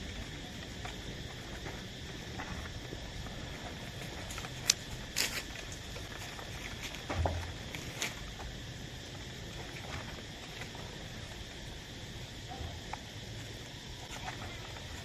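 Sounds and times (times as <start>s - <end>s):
fire crackling: 0.0s - 15.0s
steady background hiss: 0.0s - 15.0s.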